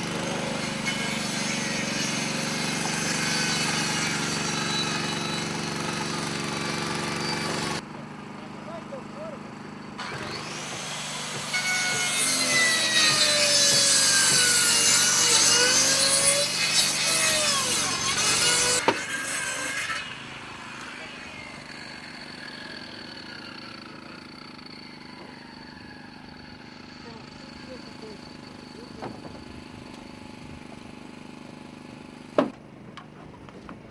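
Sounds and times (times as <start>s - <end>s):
saw winding down: 0.0s - 7.8s, 10.0s - 32.2s
circular saw cutting wood: 0.0s - 7.9s, 10.0s - 32.5s.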